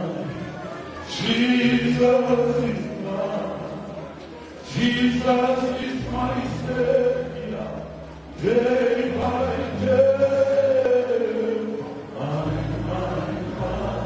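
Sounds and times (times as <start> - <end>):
man singing into a microphone: 0.0 - 14.0
sustained low accompaniment: 0.0 - 14.0.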